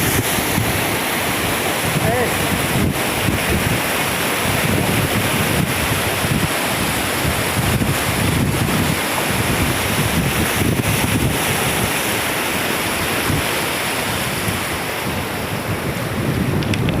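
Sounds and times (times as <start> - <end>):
floodwater rushing: 0.0 - 17.0
wind buffeting microphone: 0.0 - 17.0.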